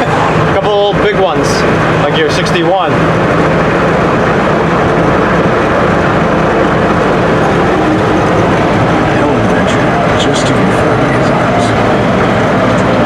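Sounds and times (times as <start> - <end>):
engine drone: 0.0 - 13.0
road noise: 0.0 - 13.0.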